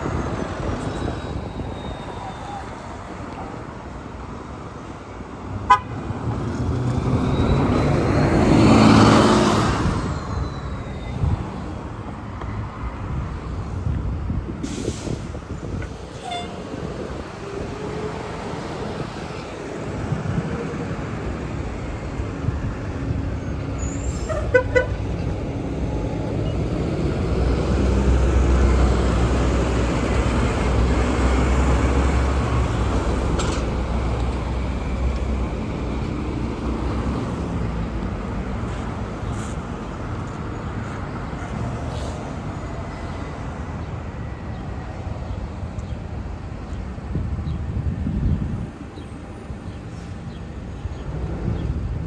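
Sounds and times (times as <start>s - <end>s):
bus engine rumble: 0.0s - 52.0s
road traffic: 0.0s - 52.0s.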